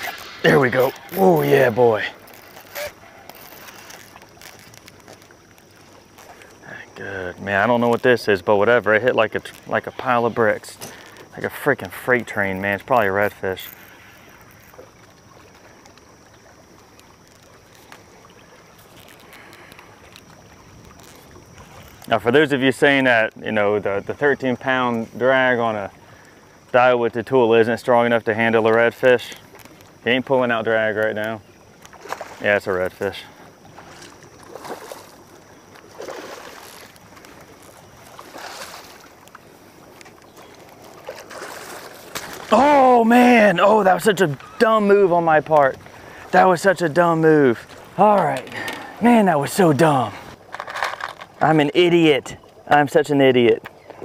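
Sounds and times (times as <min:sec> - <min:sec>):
water lapping against boat hull: 0:00.0 - 0:54.0.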